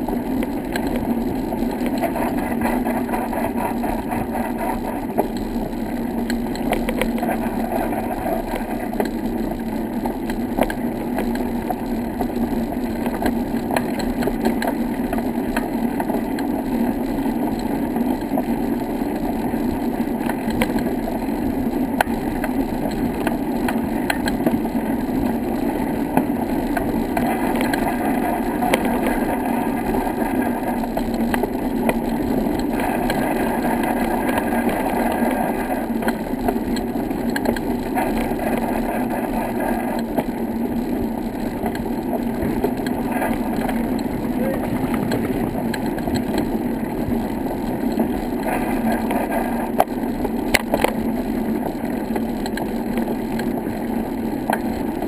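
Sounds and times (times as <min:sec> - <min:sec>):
low steady hum: 0:00.0 - 0:55.0
vehicle rumbling over bricks: 0:00.0 - 0:55.0.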